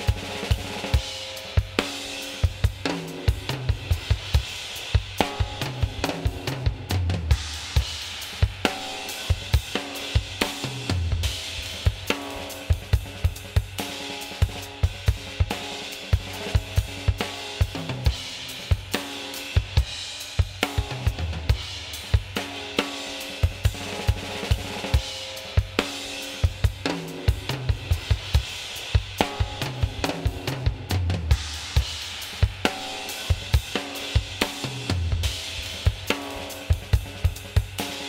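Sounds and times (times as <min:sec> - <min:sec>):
band music with bass: 0:00.0 - 0:19.0, 0:19.6 - 0:38.0
drum kit playing a busy groove: 0:00.0 - 0:38.0.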